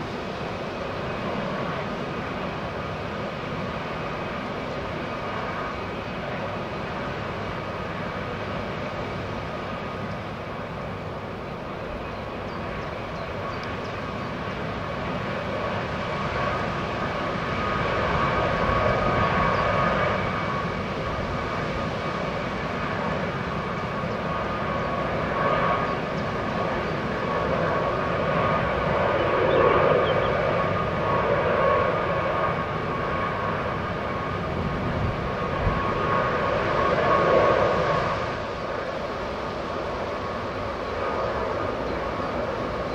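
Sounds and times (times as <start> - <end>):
jet engines high whine: 0.0 - 42.9.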